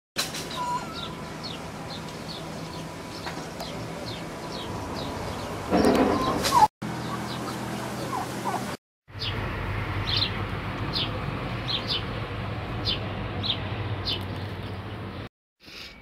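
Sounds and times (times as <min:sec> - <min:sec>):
small birds chirping: 0:00.4 - 0:09.4, 0:10.0 - 0:12.2, 0:12.8 - 0:16.0.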